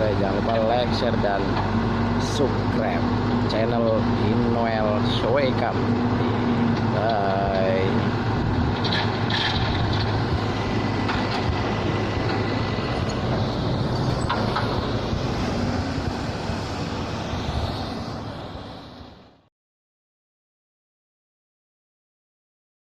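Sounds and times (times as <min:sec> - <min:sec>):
diesel engine running: 0:00.0 - 0:19.4.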